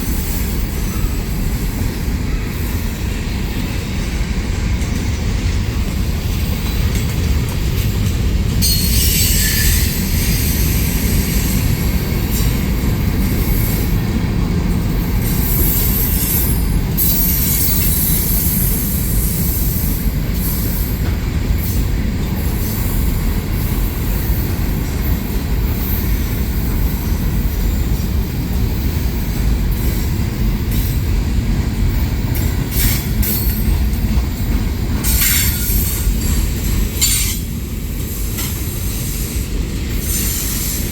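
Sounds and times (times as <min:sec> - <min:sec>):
train wheels squealing: 0:00.0 - 0:04.0, 0:08.6 - 0:14.0, 0:15.0 - 0:31.1, 0:31.8 - 0:40.9
freight train cars rolling: 0:00.0 - 0:40.9.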